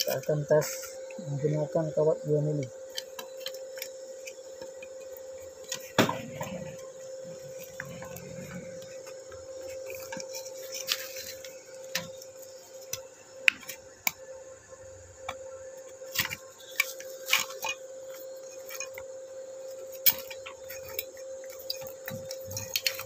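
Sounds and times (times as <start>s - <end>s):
steady high whine: 0.0s - 23.0s.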